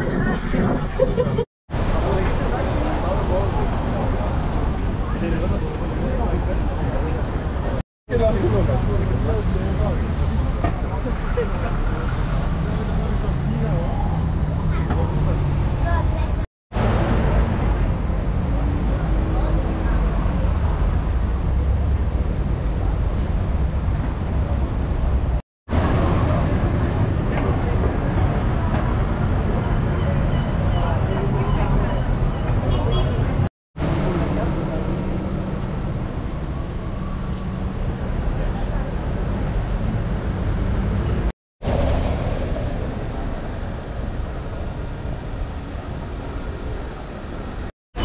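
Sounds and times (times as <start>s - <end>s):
moving vehicle noise: 0.0s - 48.0s.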